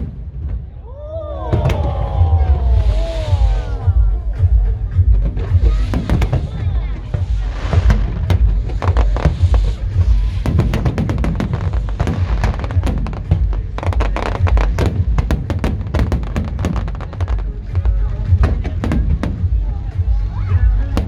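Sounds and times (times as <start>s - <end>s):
fireworks booming and crackling: 0.0s - 21.0s
music playing: 1.7s - 21.0s.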